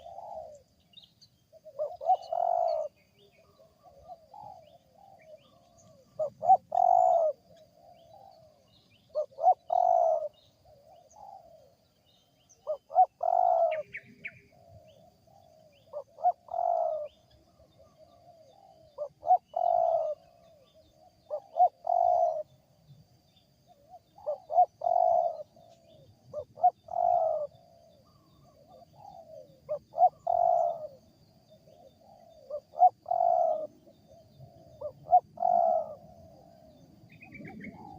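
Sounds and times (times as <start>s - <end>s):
dove cooing: 0.0s - 0.7s, 1.5s - 11.8s, 12.5s - 22.6s, 23.7s - 37.9s.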